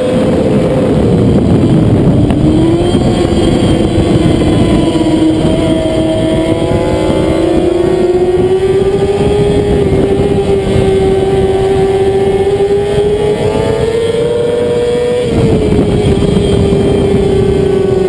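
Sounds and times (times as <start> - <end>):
motorcycle engine at high revs: 0.0 - 18.0
wind rush: 0.0 - 18.0.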